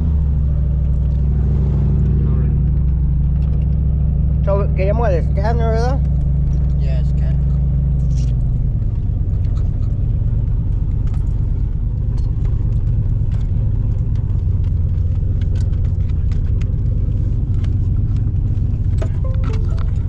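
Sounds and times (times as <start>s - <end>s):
truck driving rumble: 0.0s - 20.0s.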